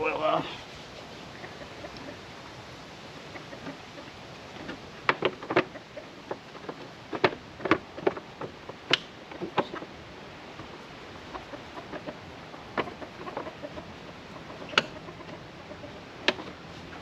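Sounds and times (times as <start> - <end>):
faint steady background noise: 0.0 - 17.0.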